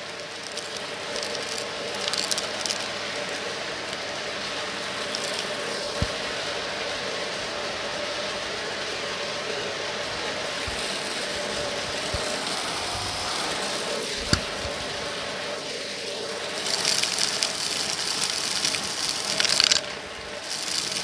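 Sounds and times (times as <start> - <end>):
stick vacuum running: 0.0 - 21.0.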